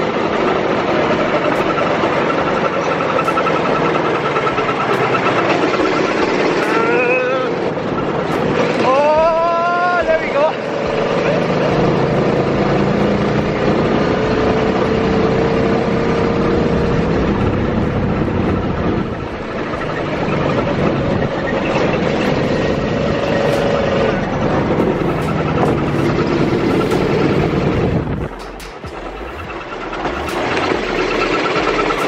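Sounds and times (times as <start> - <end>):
vehicle engine droning: 0.0 - 32.0
wind rushing over microphone: 0.0 - 32.0.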